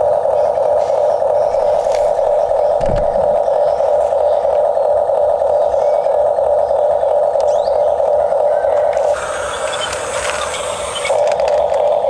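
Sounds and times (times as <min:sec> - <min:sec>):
toy motors whirring: 0:00.0 - 0:12.0.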